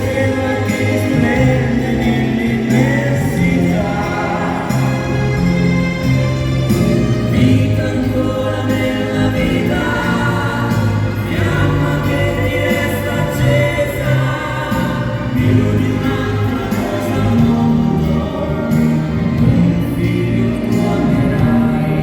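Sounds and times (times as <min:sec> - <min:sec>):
slow waltz music: 0:00.0 - 0:22.0
voices singing: 0:00.0 - 0:22.0.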